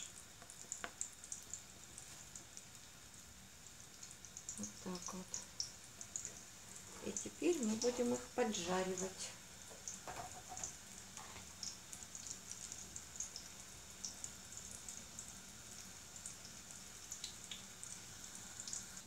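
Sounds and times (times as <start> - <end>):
hot oil popping and crackling: 0.0 - 19.0
oil sizzling in a skillet: 0.0 - 19.0.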